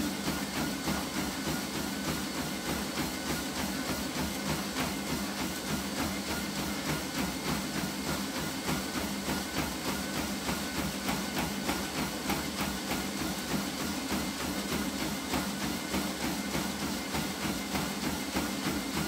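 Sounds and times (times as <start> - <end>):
running footfalls on treadmill: 0.0 - 19.0
treadmill motor hum: 0.0 - 19.0.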